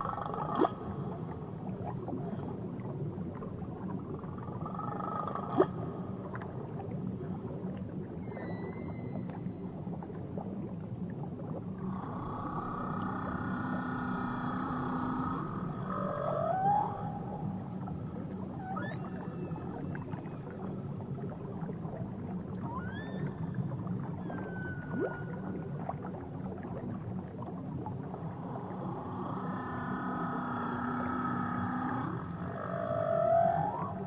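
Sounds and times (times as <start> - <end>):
whale song: 0.0 - 34.0.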